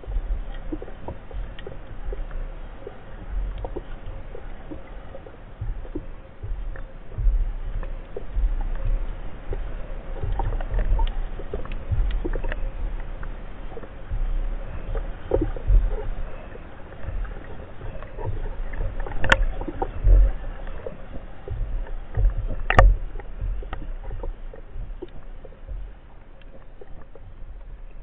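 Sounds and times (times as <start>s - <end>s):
muffled underwater rumble: 0.0s - 28.0s
small ticks: 0.0s - 28.0s
soft thumps of water movement: 0.0s - 28.0s.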